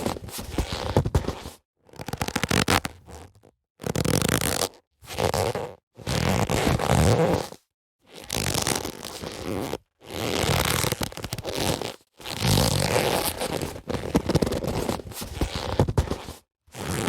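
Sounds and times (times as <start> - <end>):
leather boxing gloves creaking: 0.0 - 17.0.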